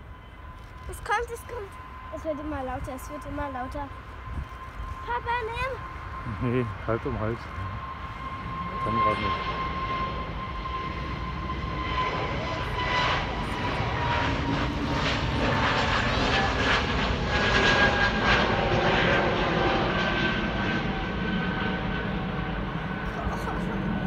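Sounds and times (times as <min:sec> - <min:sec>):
jet engines rumbling and whining: 0:00.0 - 0:24.0.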